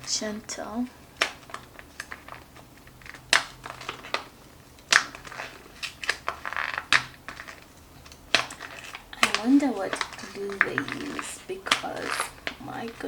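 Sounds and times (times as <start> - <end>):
paper crackling: 0.0 - 13.0
paper peeling: 0.0 - 13.0
glued paper seam cracking: 1.0 - 13.0.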